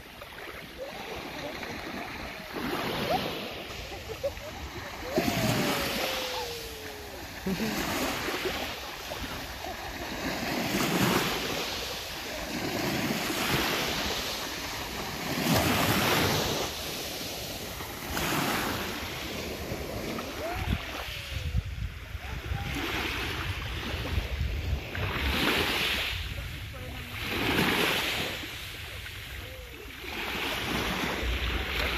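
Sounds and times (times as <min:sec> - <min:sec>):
small sea waves washing: 0:00.0 - 0:31.9
wind gusting on microphone: 0:00.8 - 0:31.9.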